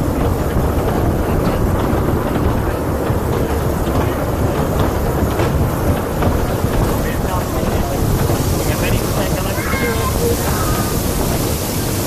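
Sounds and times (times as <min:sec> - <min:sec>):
train wheels rumbling: 0:00.0 - 0:12.0
wind noise on microphone: 0:00.0 - 0:12.0.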